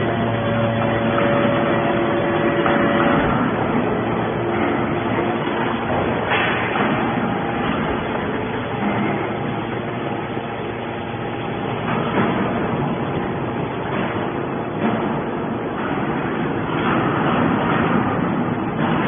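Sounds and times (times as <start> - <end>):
hydraulic scrap metal baler running: 0.0 - 19.0.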